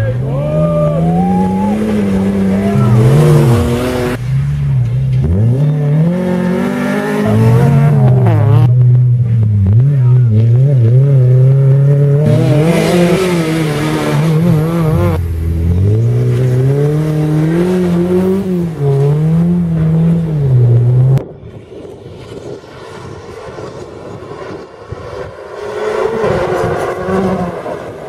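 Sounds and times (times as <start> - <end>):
rally car engine at full throttle: 0.0 - 28.0.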